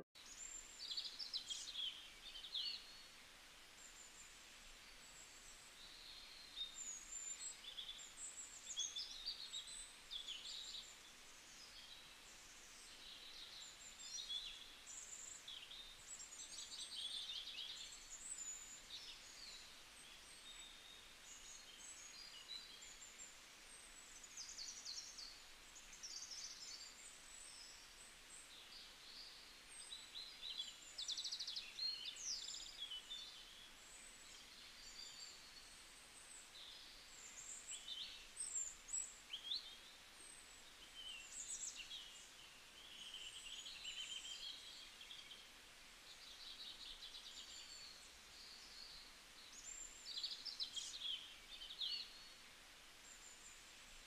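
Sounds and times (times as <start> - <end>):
faint birds chirping: 0.0 - 54.0
low background hiss: 0.0 - 54.0.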